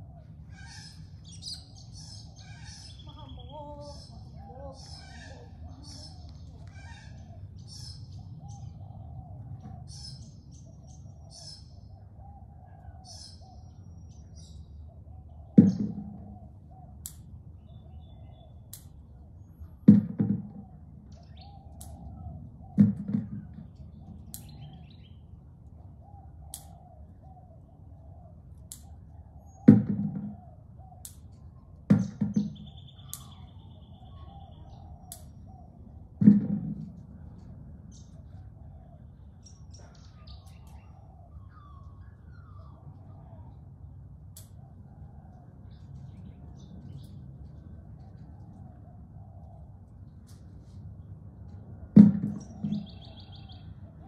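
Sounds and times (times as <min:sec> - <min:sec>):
birds chirping: 0:00.0 - 0:54.0
low background hum: 0:00.0 - 0:54.0.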